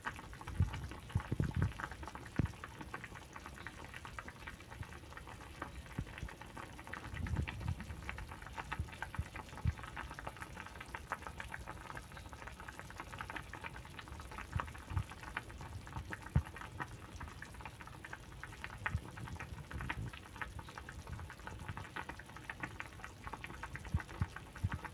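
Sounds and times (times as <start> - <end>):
broth boiling and bubbling: 0.0 - 24.9.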